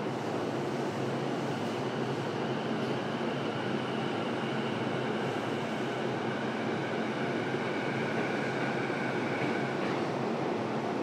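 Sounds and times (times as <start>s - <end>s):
electric train humming at standstill: 0.0s - 11.0s.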